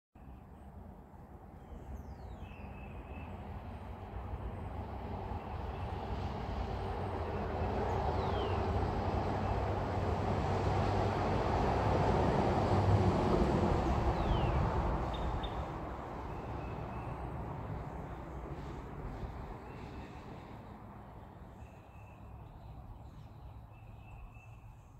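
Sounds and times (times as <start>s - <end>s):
vehicle passing: 3.5s - 23.9s.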